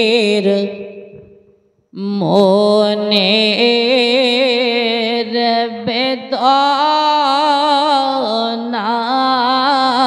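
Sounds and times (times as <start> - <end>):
man singing with vibrato: 0.0 - 1.4, 2.0 - 10.0.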